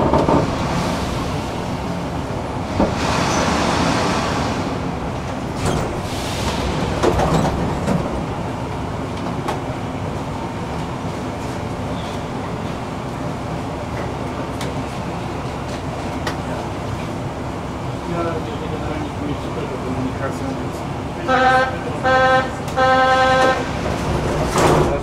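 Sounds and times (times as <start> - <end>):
train rumbling in tunnel: 0.0 - 25.0.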